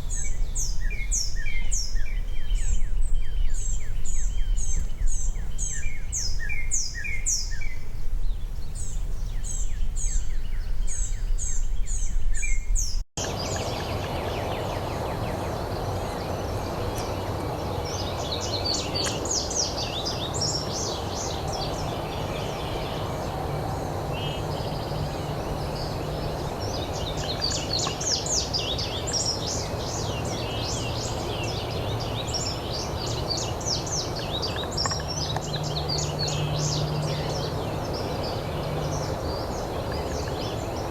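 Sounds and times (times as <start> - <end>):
outdoor background hiss: 0.0 - 40.9
small birds chirping: 0.0 - 40.9.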